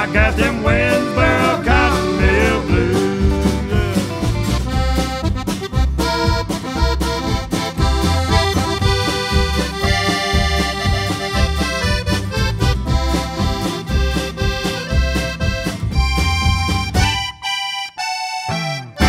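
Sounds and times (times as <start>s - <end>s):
band with pulsing bass line: 0.0s - 17.4s
piano accordion melody: 0.0s - 19.0s.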